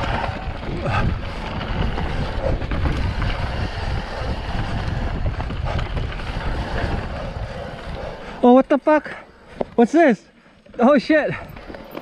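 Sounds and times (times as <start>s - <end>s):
wind buffeting microphone: 0.0s - 9.9s
bicycle tyres rumbling: 0.0s - 12.0s
bike rattling on rough ground: 0.0s - 12.0s.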